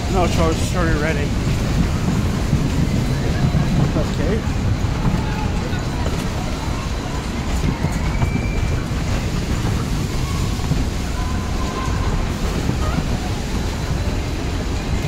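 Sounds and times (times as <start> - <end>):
faint funfair sounds: 0.0 - 15.0
wind buffeting microphone: 0.0 - 15.0.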